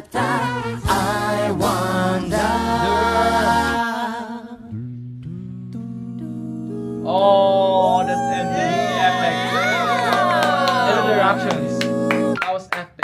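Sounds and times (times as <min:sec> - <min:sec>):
a cappella group singing: 0:00.0 - 0:07.4, 0:08.6 - 0:12.4.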